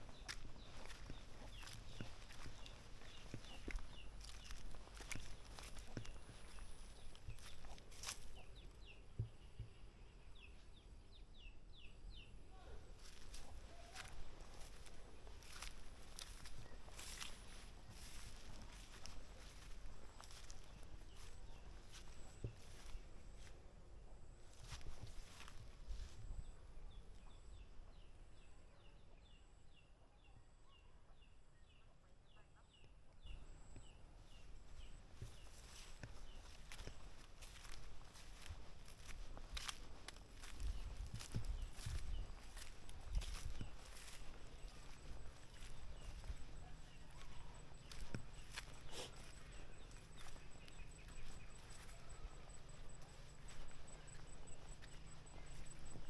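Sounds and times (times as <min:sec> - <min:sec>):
small bird chirping: 0:00.0 - 0:10.6, 0:11.8 - 0:23.5, 0:32.6 - 0:56.0.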